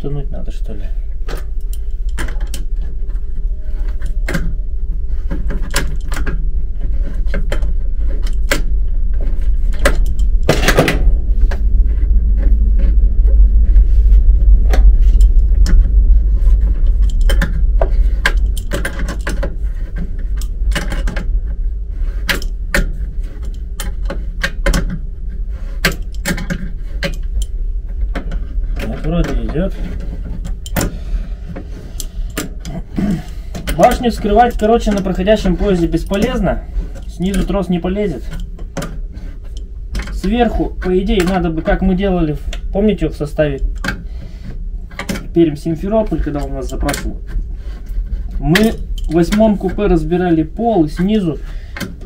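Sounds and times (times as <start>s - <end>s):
low rumble: 0.0s - 52.0s.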